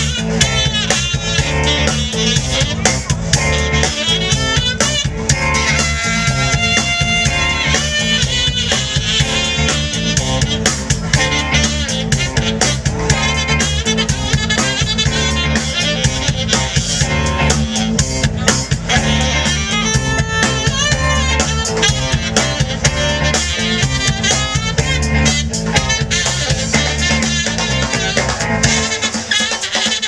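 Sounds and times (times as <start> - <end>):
live blues band: 0.0 - 30.0
tenor saxophone solo: 0.0 - 30.0.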